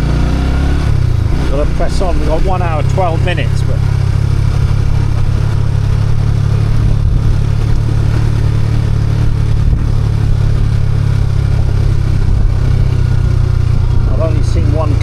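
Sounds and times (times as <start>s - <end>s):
motorcycle engine rumbling: 0.0s - 15.0s
road noise: 0.0s - 15.0s.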